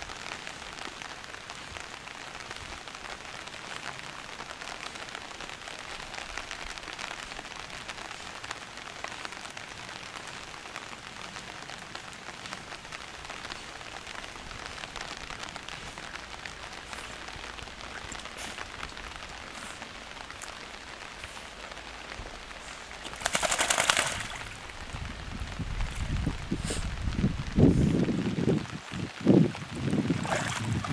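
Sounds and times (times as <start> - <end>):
light rain pattering: 0.0 - 30.9.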